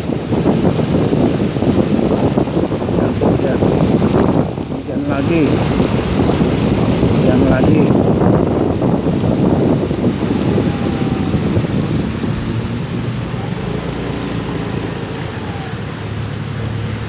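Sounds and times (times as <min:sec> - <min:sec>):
rain falling: 0:00.0 - 0:17.0
faint low engine hum: 0:02.9 - 0:17.0.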